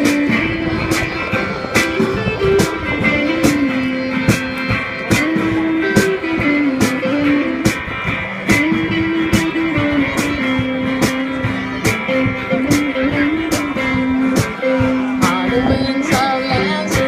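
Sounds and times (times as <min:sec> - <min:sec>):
drums beating slowly: 0:00.0 - 0:17.0
electric guitar: 0:00.0 - 0:17.0.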